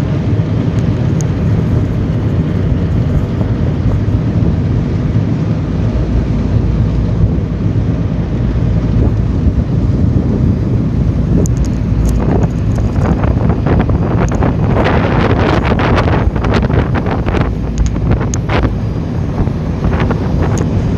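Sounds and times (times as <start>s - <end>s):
boat engine rumbling: 0.0s - 20.9s
wind buffeting microphone: 0.0s - 20.9s.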